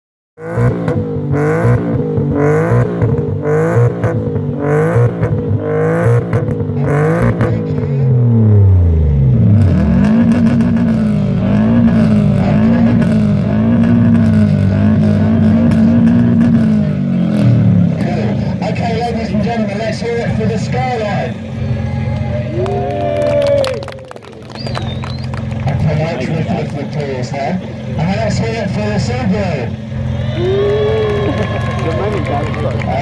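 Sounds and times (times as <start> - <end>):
car engine revving: 0.4 - 33.0.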